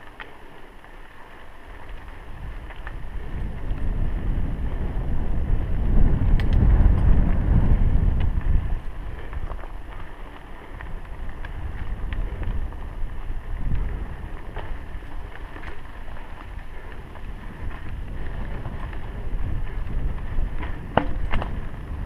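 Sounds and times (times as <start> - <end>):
bike clicks and rattles: 0.0 - 22.0
bike tyre rumble on dirt: 0.0 - 22.0
wind buffeting microphone: 0.8 - 22.0.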